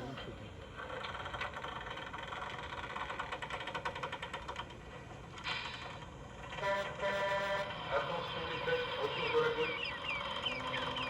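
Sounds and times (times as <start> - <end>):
simulated engine chugging from speaker: 0.0 - 4.3, 5.6 - 11.0.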